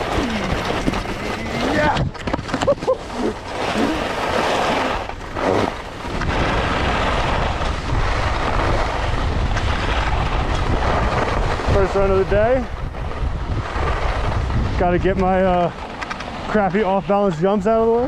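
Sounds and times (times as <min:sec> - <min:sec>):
skis sliding over snow: 0:00.0 - 0:18.0
wind rumbling on microphone: 0:00.0 - 0:18.0.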